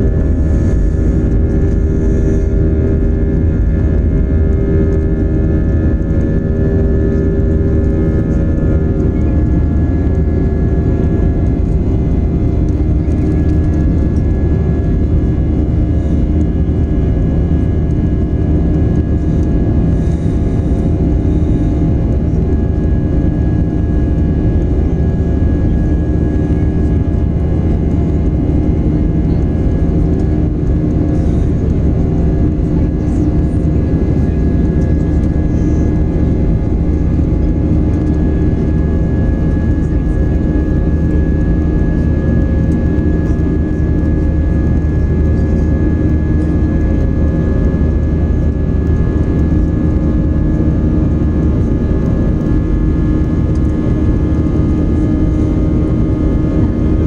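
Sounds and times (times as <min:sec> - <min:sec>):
airliner engines rumbling in cabin: 0:00.0 - 0:57.0
steady humming tones: 0:00.0 - 0:57.0.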